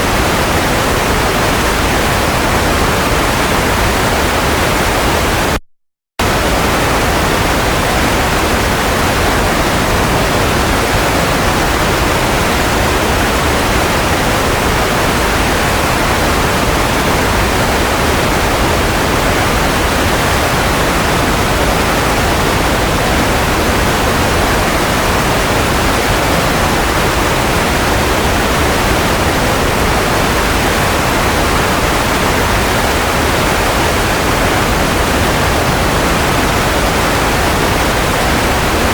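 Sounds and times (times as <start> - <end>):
white noise hiss: 6.2 - 38.9.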